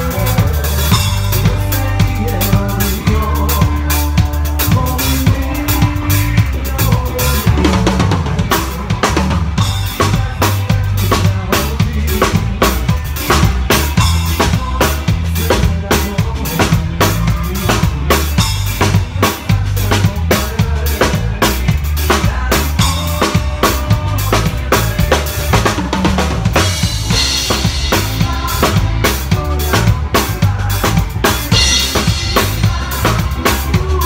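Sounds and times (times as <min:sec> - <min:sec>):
drum kit playing: 0:00.0 - 0:34.0
low bass notes: 0:00.0 - 0:34.0.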